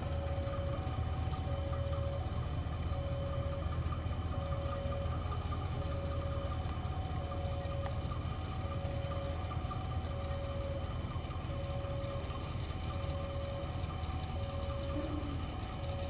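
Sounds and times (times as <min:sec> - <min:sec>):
insects chirping: 0:00.0 - 0:16.0
two-tone electronic warning signal: 0:02.9 - 0:16.0.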